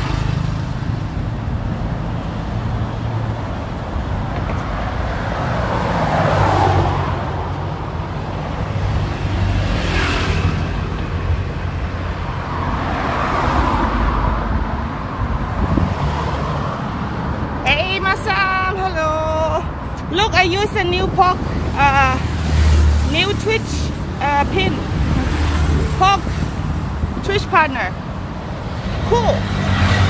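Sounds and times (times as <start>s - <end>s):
road traffic rumble: 0.0s - 30.0s
vehicles passing: 0.0s - 30.0s.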